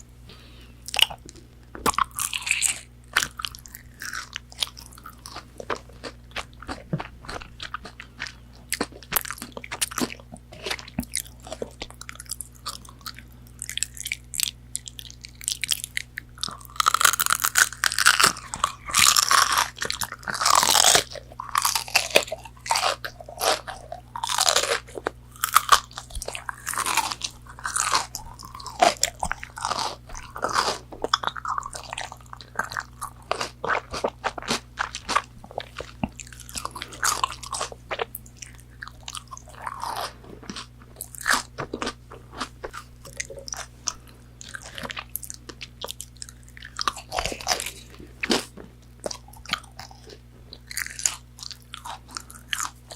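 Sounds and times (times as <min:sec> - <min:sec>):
chewing and crunching food: 0:00.0 - 0:52.9.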